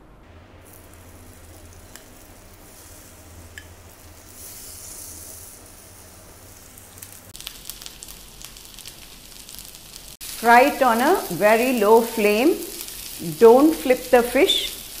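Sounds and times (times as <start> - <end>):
oil crackling spatters: 0.3 - 15.0
fish sizzling in hot oil: 0.5 - 15.0.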